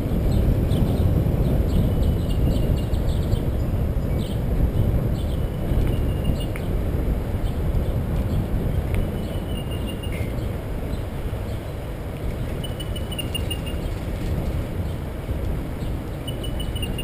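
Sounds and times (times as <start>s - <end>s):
wind rumble on microphone: 0.0s - 17.0s
faint bird song: 0.1s - 6.8s, 7.4s - 15.1s, 15.7s - 17.0s.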